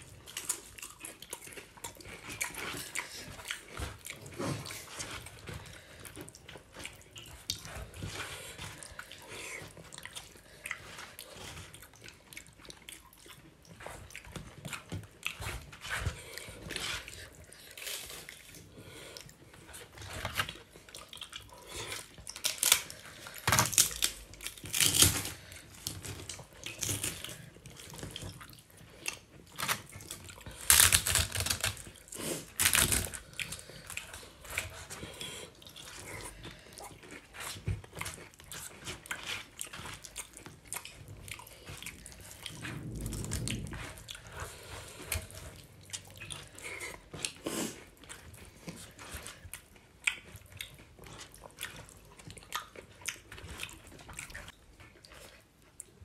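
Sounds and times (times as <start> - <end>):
chewing and wet smacking: 0.0 - 56.0.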